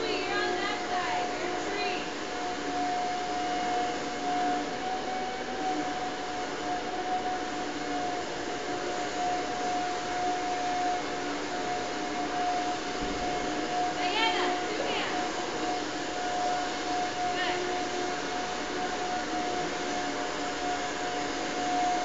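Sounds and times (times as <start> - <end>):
high-pitched hum: 0.0 - 22.0
whirring drone: 0.0 - 22.0.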